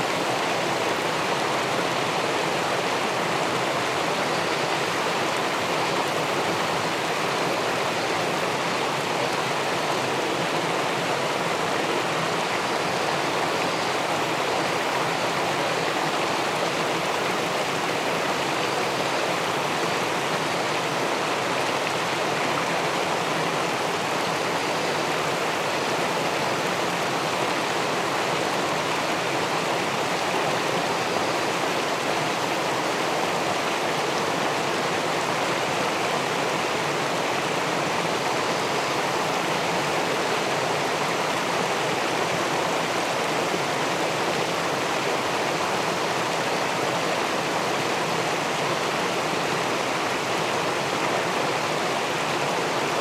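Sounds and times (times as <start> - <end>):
river water rushing over a weir: 0.0 - 53.0.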